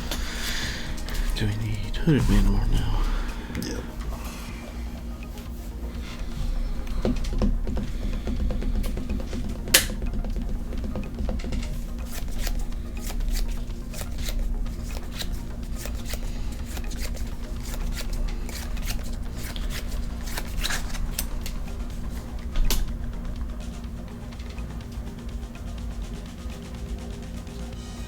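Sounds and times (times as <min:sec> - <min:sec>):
trading cards shuffling: 0:00.0 - 0:25.1
quiet background music: 0:00.0 - 0:28.0.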